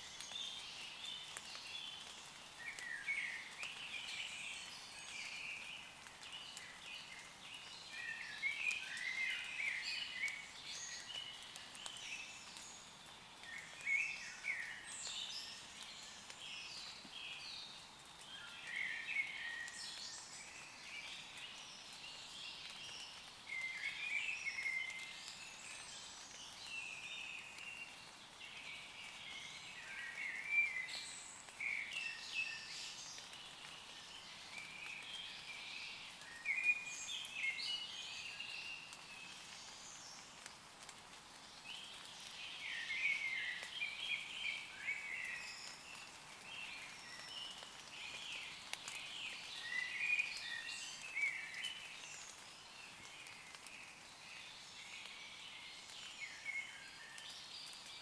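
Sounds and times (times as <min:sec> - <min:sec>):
light rain on leaves: 0:00.0 - 0:58.0
songbirds singing: 0:00.0 - 0:58.0.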